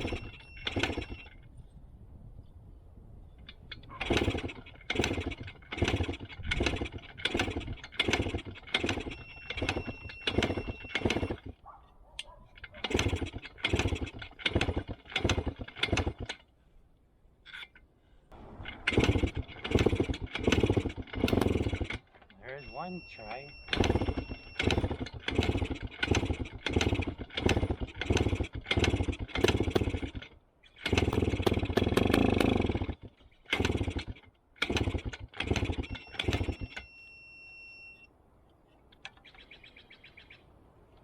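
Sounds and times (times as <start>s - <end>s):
two-stroke engine kick-started: 0.0s - 1.4s, 3.4s - 11.6s, 12.6s - 16.5s, 18.3s - 38.1s.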